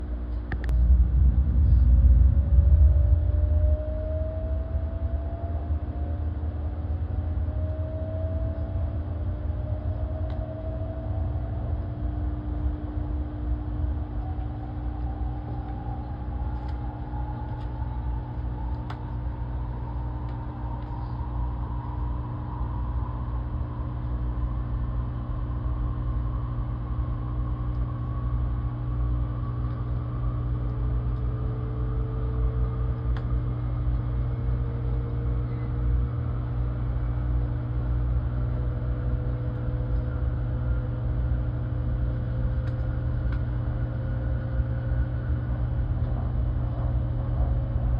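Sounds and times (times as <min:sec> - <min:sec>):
train rumble and hum: 0:00.0 - 0:47.9
electric whine rising in pitch: 0:00.7 - 0:47.9.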